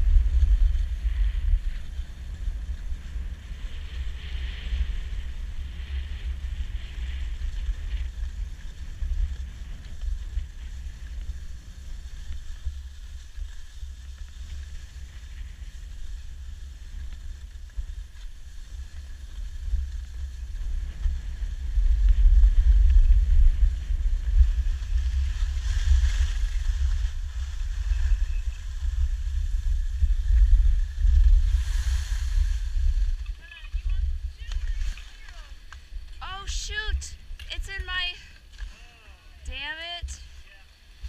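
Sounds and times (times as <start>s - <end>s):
wind buffeting microphone: 0.0s - 38.6s
skis sliding on snow: 0.0s - 41.0s.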